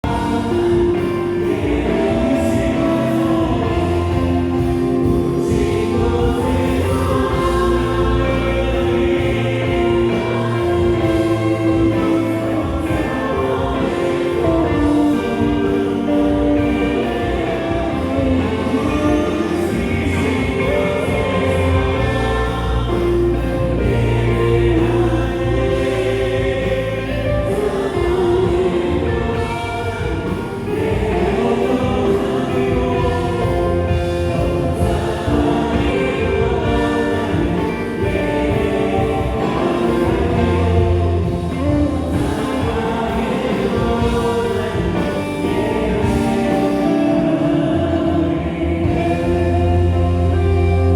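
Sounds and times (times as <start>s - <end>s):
group of singers singing: 0.0s - 50.9s
worship band playing: 0.0s - 50.9s.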